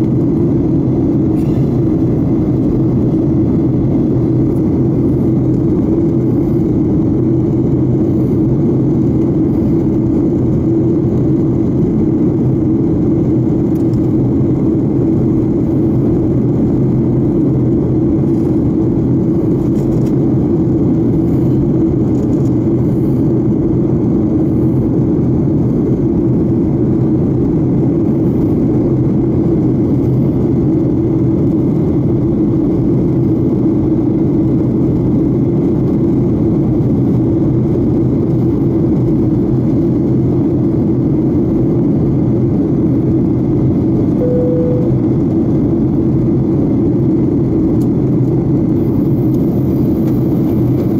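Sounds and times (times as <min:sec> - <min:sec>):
airliner cabin engine noise: 0:00.0 - 0:50.9.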